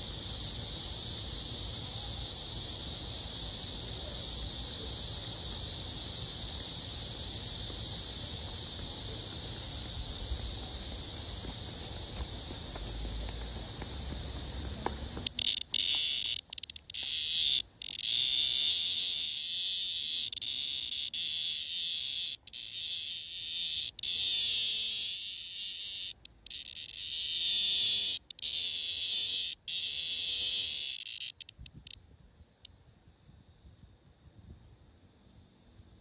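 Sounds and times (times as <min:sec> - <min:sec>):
cicada buzzing: 0:00.0 - 0:32.7.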